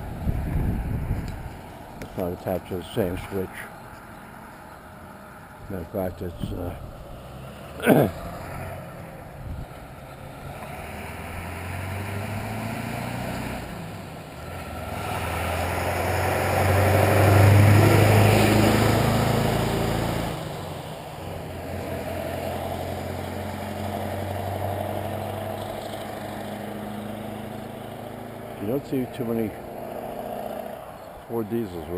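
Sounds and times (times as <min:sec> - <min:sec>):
diesel truck driving past: 0:00.0 - 0:31.9
steady engine hum: 0:00.0 - 0:31.9.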